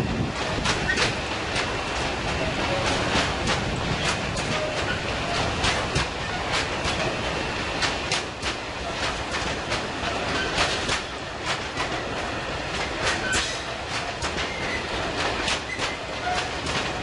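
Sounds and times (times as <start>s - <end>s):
freight train rumble: 0.0s - 17.0s
train wheels clacking over rail joints: 0.0s - 17.0s.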